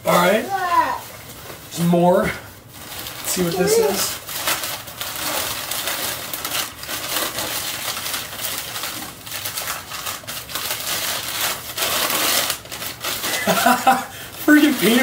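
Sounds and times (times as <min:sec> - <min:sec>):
newspaper crinkling and rustling: 0:02.6 - 0:15.0.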